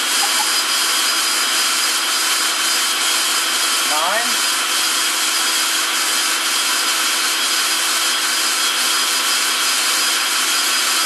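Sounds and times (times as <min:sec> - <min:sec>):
drill running steadily: 0:00.0 - 0:11.0.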